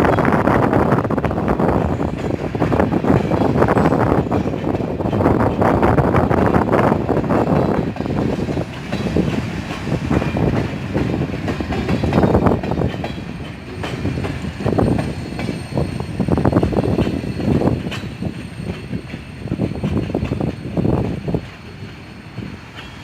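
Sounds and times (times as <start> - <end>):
freight train rumbling: 0.0 - 23.0.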